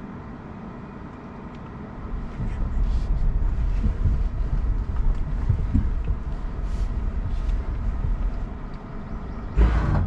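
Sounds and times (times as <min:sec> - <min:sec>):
tyres and suspension rumble: 0:00.0 - 0:10.0.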